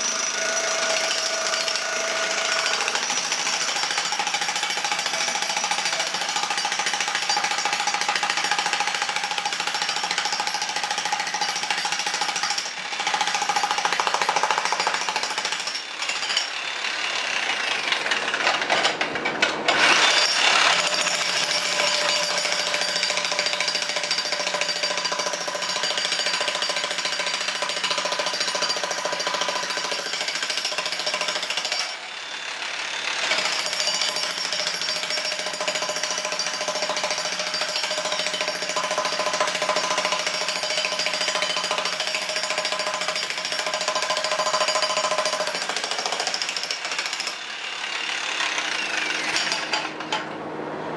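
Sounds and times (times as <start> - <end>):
demolition hammers on concrete: 0.6 - 16.6, 17.7 - 32.0, 33.2 - 47.4, 48.4 - 50.3.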